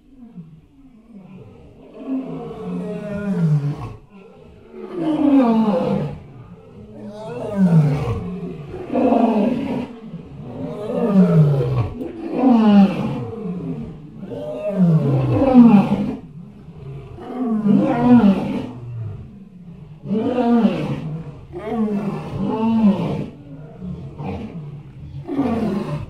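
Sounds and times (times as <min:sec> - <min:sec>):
deep elephant roaring calls: 0:00.0 - 0:26.0.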